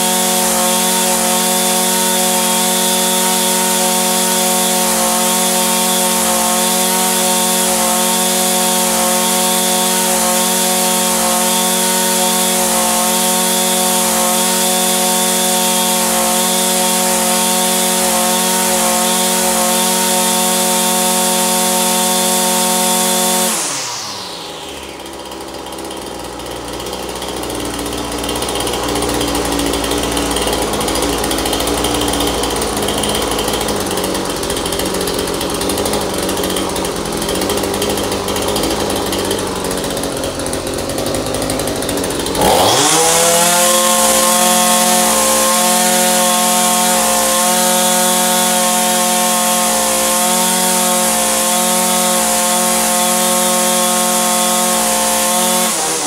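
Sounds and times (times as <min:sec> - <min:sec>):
string trimmer engine: 0:00.0 - 0:56.0.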